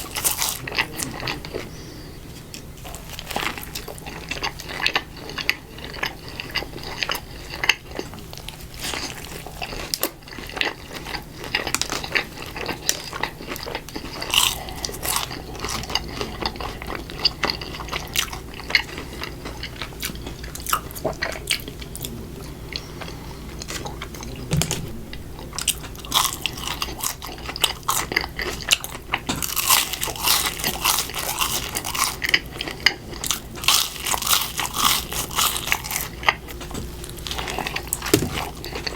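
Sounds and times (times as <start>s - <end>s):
chewing with crunchy bites: 0.0s - 38.9s.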